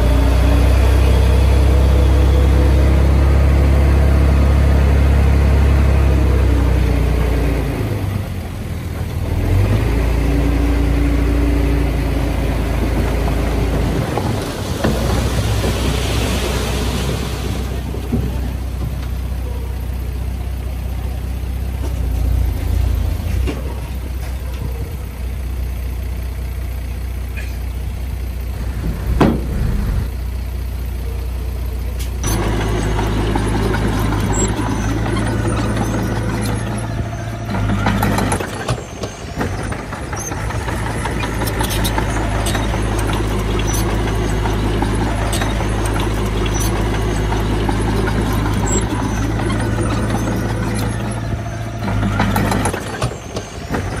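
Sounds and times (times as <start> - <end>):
heavy diesel engines droning: 0.0 - 54.0.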